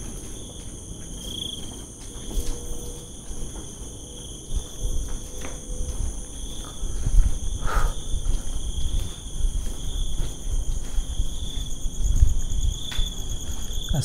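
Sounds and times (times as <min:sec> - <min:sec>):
low rumbling and scuffing: 0:00.0 - 0:13.9
insects trilling: 0:00.0 - 0:14.0.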